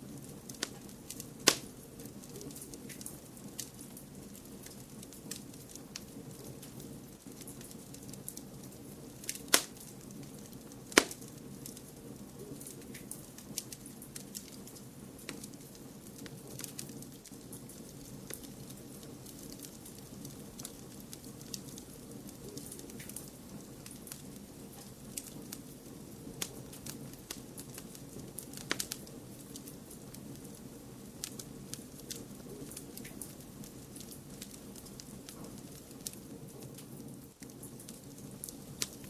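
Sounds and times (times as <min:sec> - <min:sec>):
low hiss: 0:00.0 - 0:39.0
wood fire crackling: 0:00.0 - 0:39.0.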